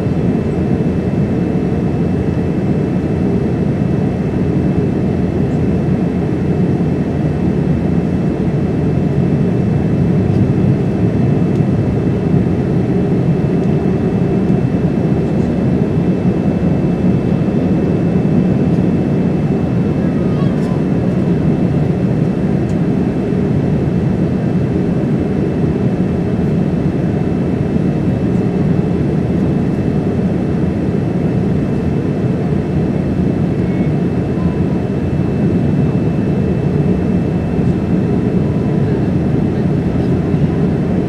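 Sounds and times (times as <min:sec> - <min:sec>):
airplane cabin engine noise: 0:00.0 - 0:41.0.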